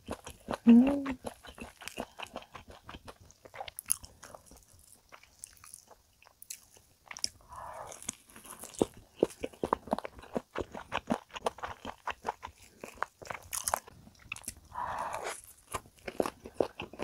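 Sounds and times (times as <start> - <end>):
chewing crispy fried chicken: 0.0 - 17.0.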